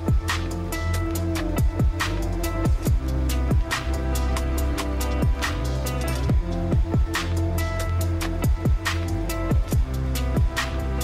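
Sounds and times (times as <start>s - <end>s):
deep kick drums: 0.0s - 11.0s
electronic music with steady beat: 0.0s - 11.0s.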